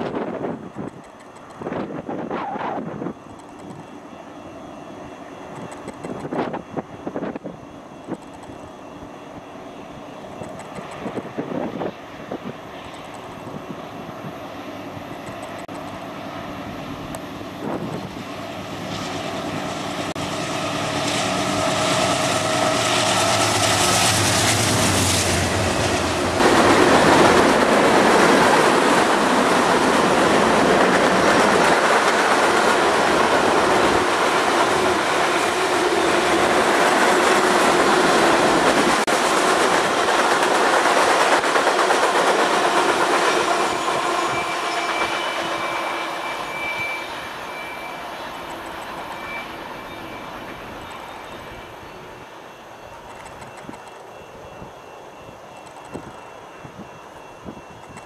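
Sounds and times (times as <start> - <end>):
train wheels clickety-clack on rails: 0.0 - 4.1, 5.2 - 8.7, 10.1 - 16.1, 17.0 - 58.0
diesel locomotive engines droning: 0.0 - 58.0.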